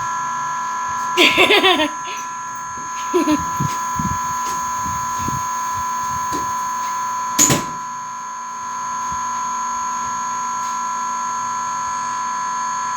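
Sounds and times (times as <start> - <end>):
electronic alarm buzzer tone: 0.0 - 12.9.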